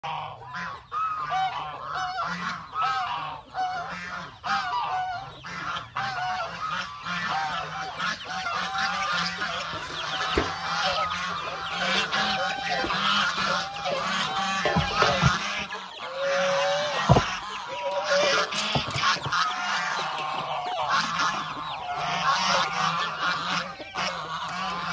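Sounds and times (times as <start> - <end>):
poultry calling: 0.0 - 24.9.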